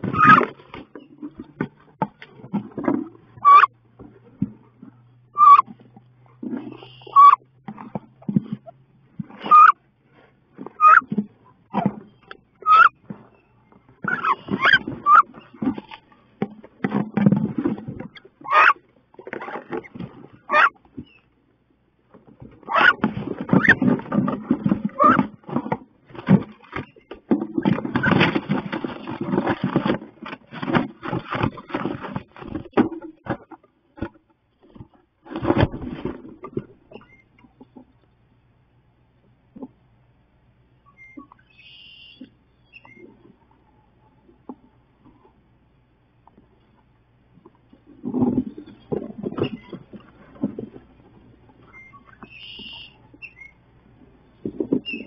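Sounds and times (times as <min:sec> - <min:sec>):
ducks scuffling in wooden box: 0:00.0 - 0:37.9, 0:41.0 - 0:55.0.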